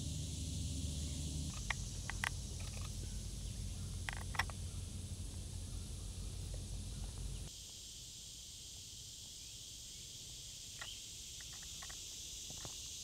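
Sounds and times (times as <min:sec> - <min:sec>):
insect chorus hiss: 0:00.0 - 0:13.0.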